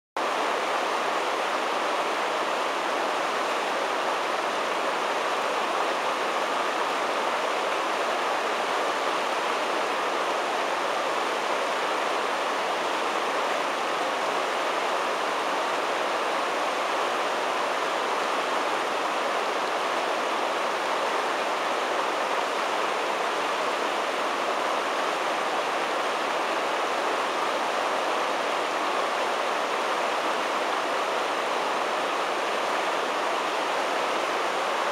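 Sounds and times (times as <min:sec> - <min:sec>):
whitewater rushing: 0:00.2 - 0:34.9.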